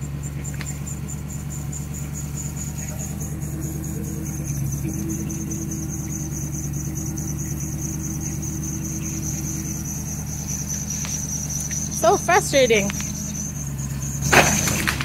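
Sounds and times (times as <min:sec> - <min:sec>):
car engine running: 0:00.0 - 0:15.0
power-steering whine: 0:00.0 - 0:15.0
high rapidly pulsing tone: 0:00.7 - 0:14.2.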